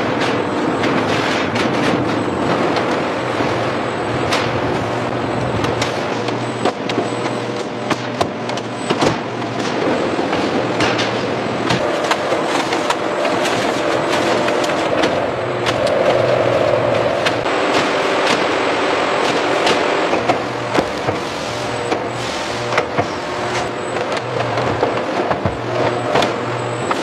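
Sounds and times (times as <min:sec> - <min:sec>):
machinery noise: 0:00.0 - 0:27.0.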